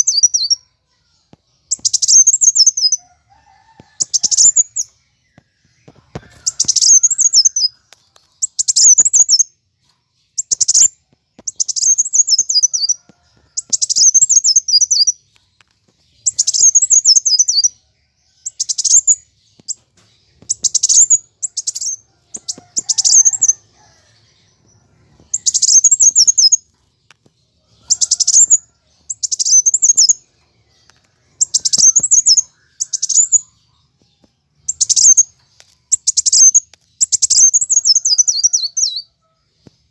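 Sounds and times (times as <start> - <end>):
sunbird chattering song: 0.0 - 0.8, 1.6 - 3.0, 3.8 - 9.6, 10.2 - 39.1.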